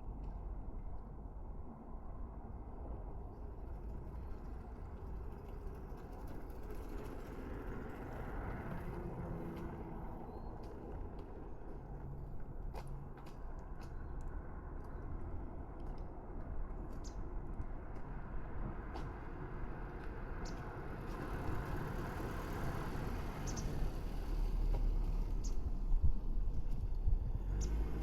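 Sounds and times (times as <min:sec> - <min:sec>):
low outdoor background rumble: 0:00.0 - 0:28.0.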